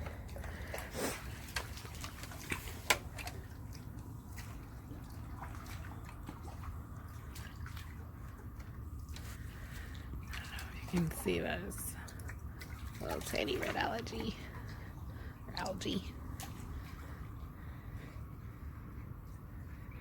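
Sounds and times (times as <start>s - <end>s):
water dripping and splashing: 0.0s - 18.0s
steady low rumble: 0.0s - 20.0s.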